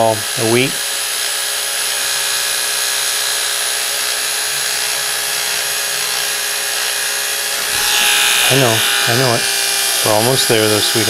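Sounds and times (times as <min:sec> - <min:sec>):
electric hair clippers running: 0:00.0 - 0:11.0.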